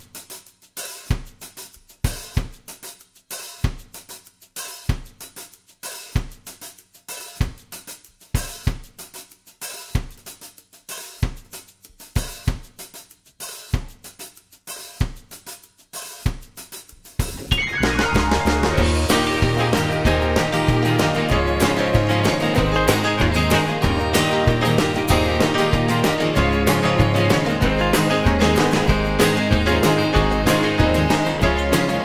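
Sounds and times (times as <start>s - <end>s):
drum kit playing a beat: 0.0s - 32.0s.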